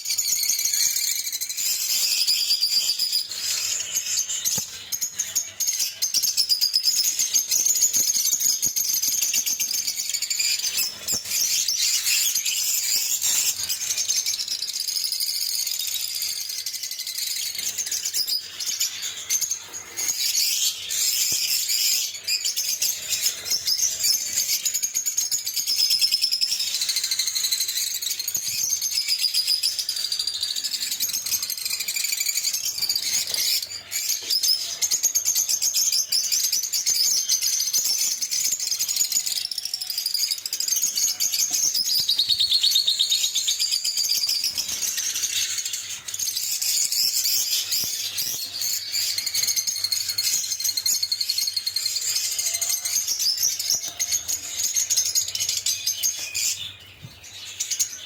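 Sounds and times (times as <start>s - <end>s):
lovebirds chirping: 0.0s - 58.0s.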